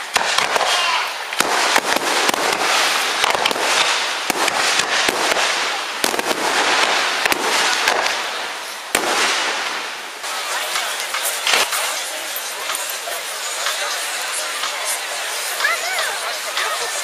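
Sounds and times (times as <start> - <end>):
fireworks crackling: 0.0 - 17.0
fireworks sharp bangs: 0.0 - 17.0.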